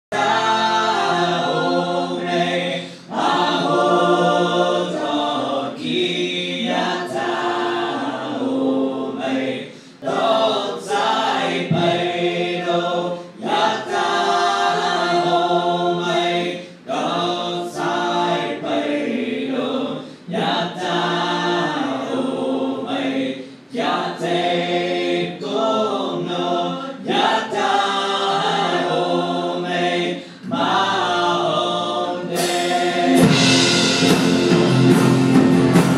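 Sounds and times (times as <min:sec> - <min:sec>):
group singing a cappella: 0:00.0 - 0:34.5.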